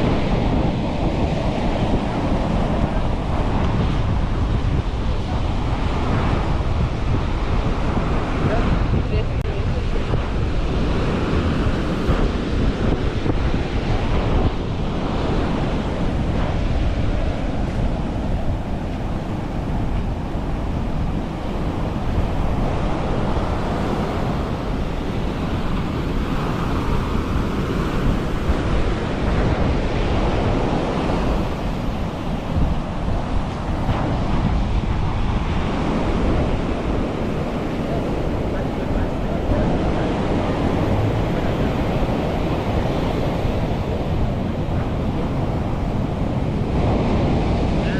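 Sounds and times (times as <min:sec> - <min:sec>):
ocean surf breaking on beach: 0:00.0 - 0:47.9
wind buffeting microphone: 0:00.0 - 0:47.9.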